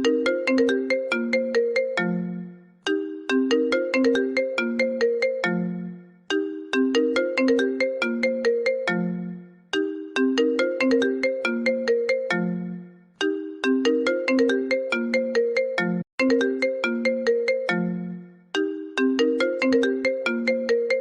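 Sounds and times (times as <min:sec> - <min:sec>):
phone ringtone melody: 0:00.0 - 0:21.0.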